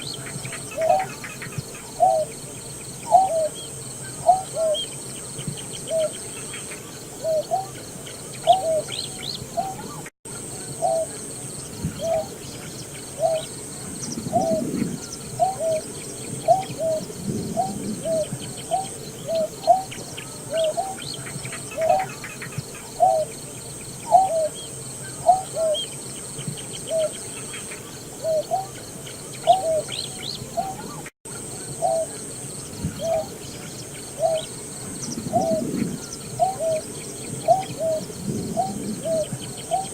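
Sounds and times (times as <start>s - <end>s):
bird low hooting calls: 0.0s - 39.9s.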